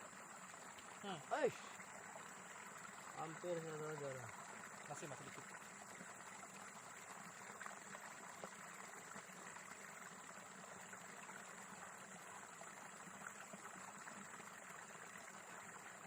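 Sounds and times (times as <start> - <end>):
trickling water hiss: 0.0 - 16.0.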